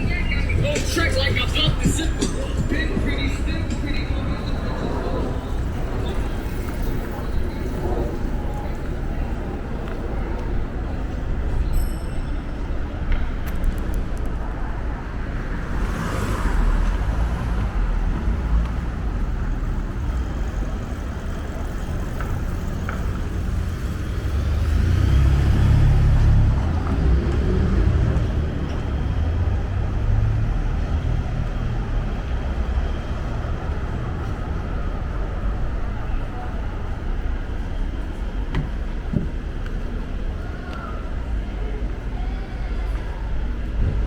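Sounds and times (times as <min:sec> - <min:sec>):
rumble of car traffic: 0:00.0 - 0:44.0.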